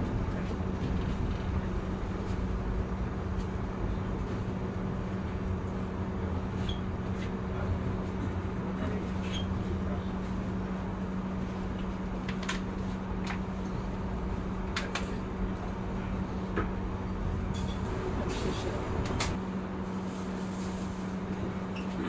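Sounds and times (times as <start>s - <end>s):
train carriage rumble: 0.0s - 22.0s.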